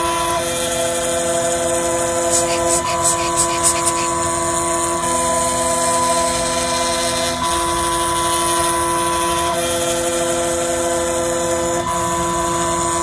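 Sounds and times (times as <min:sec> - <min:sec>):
milling machine motor whine: 0:00.0 - 0:13.0.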